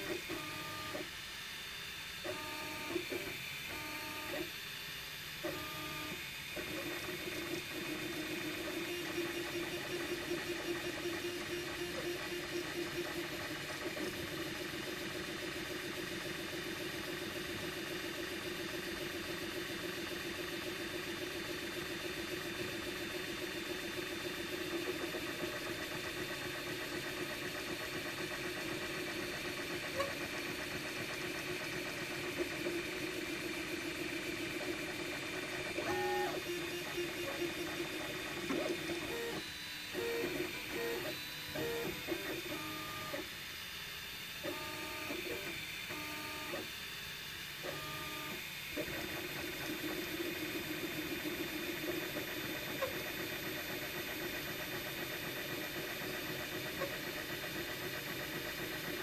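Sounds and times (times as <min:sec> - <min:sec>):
printer fan and motor hum: 0:00.0 - 0:59.0.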